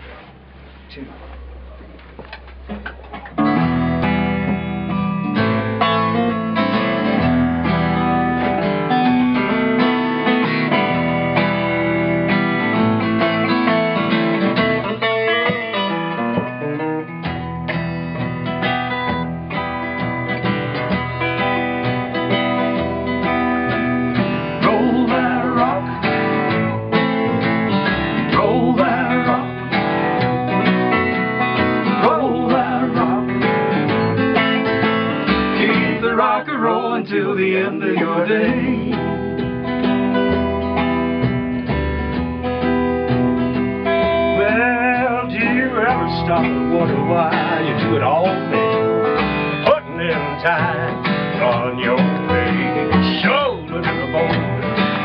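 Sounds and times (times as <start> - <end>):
strummed acoustic guitar: 0.0 - 55.0
country rock song: 2.7 - 55.0.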